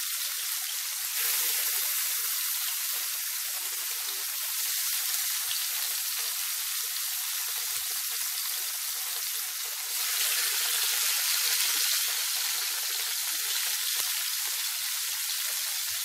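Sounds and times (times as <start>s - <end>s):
prawns sizzling in hot oil: 0.0s - 16.0s.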